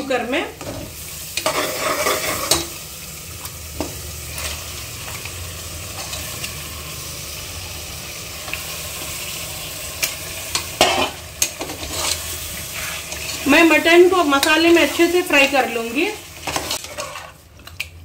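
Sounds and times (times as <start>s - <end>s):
meat sizzling in hot oil: 0.0s - 17.6s.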